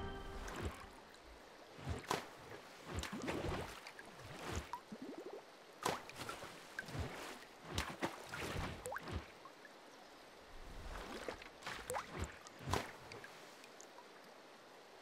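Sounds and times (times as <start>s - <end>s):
water splashing and dripping: 0.0s - 9.5s, 10.6s - 14.1s.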